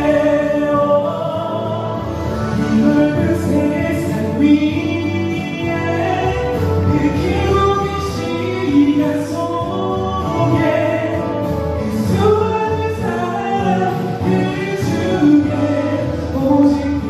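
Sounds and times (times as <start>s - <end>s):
slow ballad with singing: 0.0s - 17.0s.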